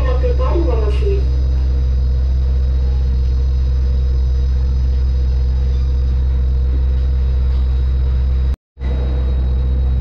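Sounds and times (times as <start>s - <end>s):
monorail low rumble: 0.0s - 10.0s
steady hum: 0.0s - 10.0s.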